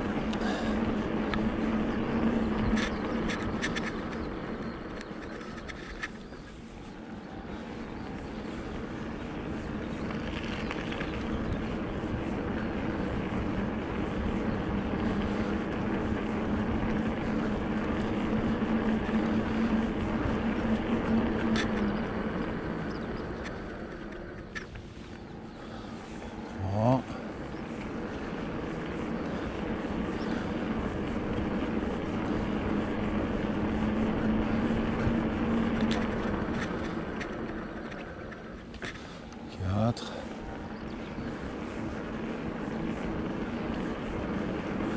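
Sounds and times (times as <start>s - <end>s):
electric bike humming: 0.0s - 44.9s.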